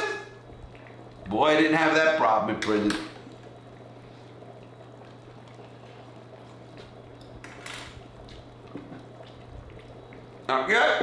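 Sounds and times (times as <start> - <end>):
water boiling with low bubbling: 0.0 - 11.0.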